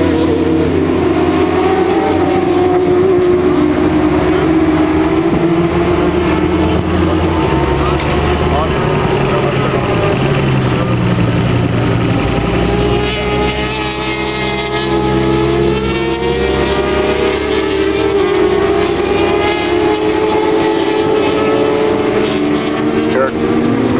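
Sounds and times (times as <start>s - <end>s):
motorcycle engines running: 0.0s - 23.9s.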